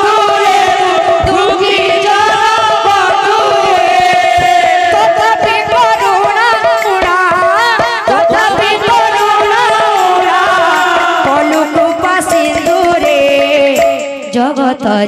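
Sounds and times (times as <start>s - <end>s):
steady held drone: 0.0s - 14.5s
hand drums beaten quickly: 0.0s - 14.9s.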